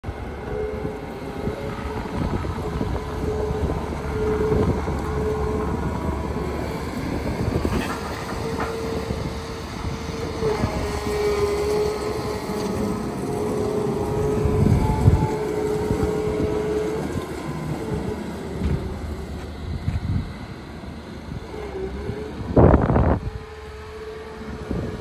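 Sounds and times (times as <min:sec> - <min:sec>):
diesel excavator engine rumbling: 0:00.0 - 0:25.0.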